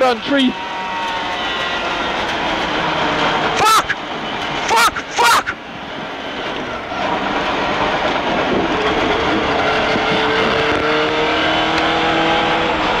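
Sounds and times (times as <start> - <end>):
car engine: 0.0 - 13.0
tyres on wet road: 0.0 - 13.0.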